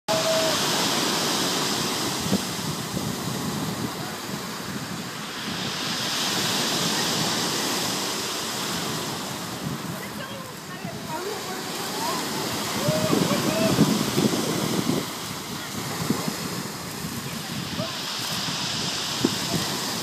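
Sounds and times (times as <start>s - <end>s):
sea surf washing onto shore: 0.1s - 20.0s.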